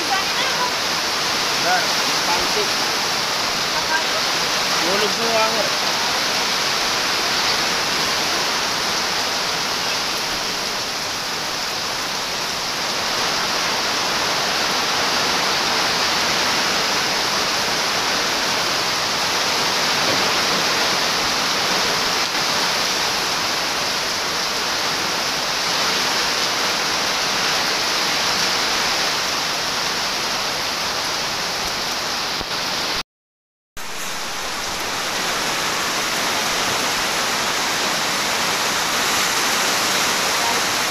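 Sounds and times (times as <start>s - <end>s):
torrential rain with wind: 0.0s - 33.0s, 33.8s - 40.9s.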